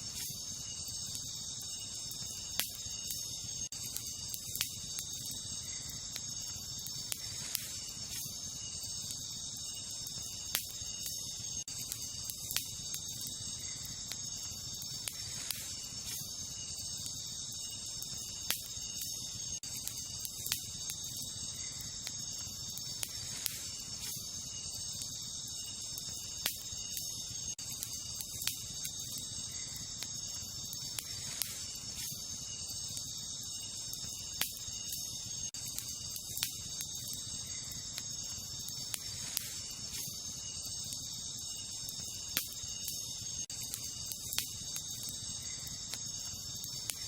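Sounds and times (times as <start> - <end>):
campfire crackling: 0.0 - 47.0
fire popping: 0.0 - 47.0
night insects chorus: 0.0 - 47.0.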